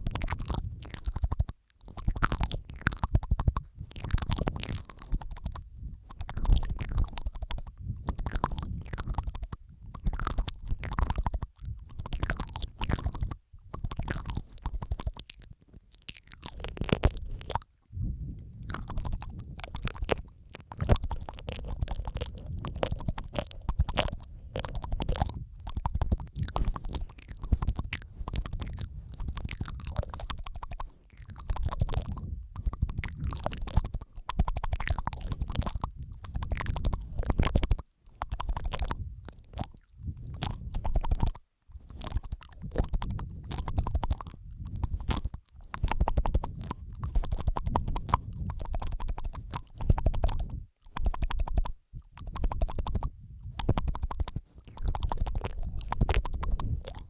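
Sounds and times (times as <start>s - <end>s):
wet mouth clicks and smacks: 0.0s - 57.0s.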